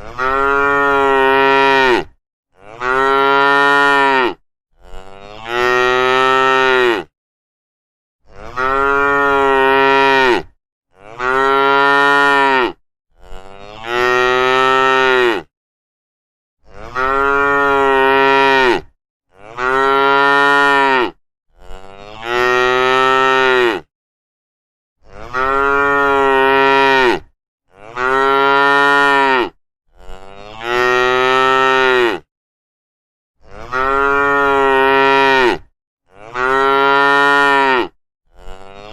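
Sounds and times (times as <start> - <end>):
cattle mooing: 0.0 - 7.1, 8.3 - 15.5, 16.8 - 23.9, 25.0 - 32.2, 33.5 - 38.9.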